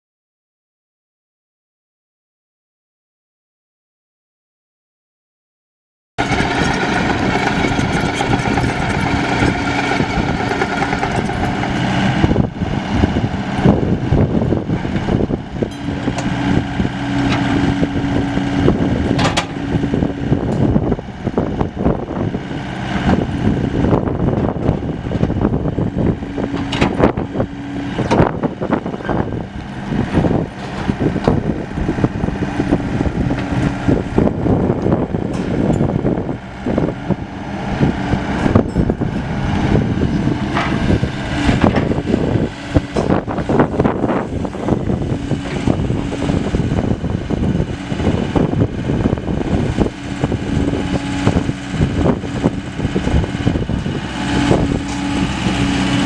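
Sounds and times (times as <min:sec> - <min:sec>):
diesel engine running: 0:06.2 - 0:56.0.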